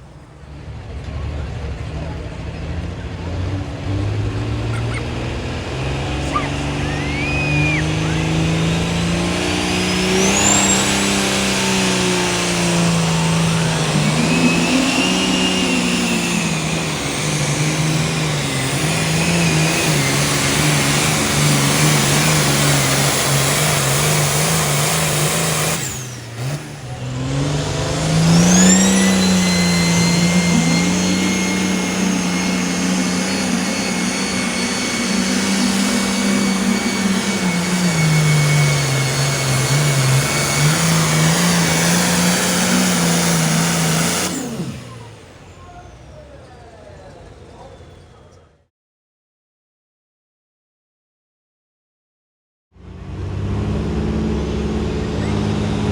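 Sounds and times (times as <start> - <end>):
high engine whine: 0.0 - 48.6, 52.8 - 55.9
engine revving under load: 0.0 - 48.7, 52.8 - 55.9.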